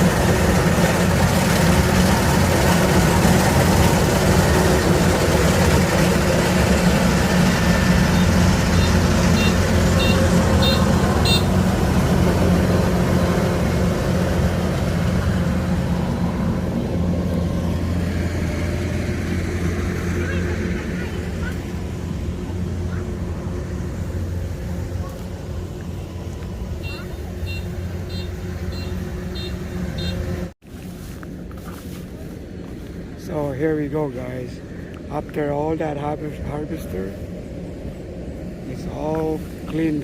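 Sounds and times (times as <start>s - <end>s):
combine harvester engine running: 0.0s - 40.0s.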